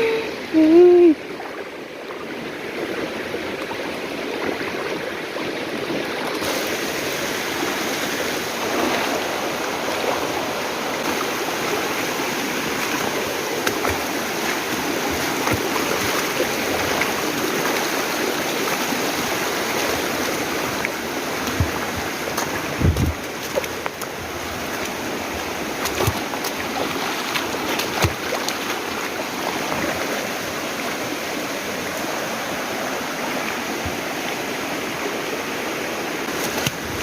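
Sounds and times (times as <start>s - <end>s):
river rushing over rocks: 1.2s - 37.0s.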